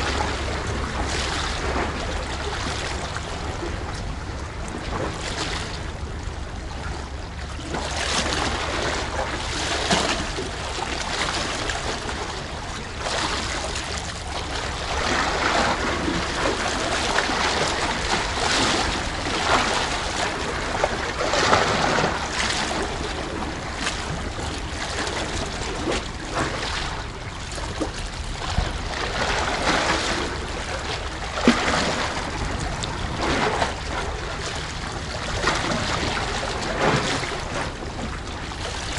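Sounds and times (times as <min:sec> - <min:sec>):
seawater sloshing among blocks: 0:00.0 - 0:38.9
steady low hum: 0:00.0 - 0:38.9.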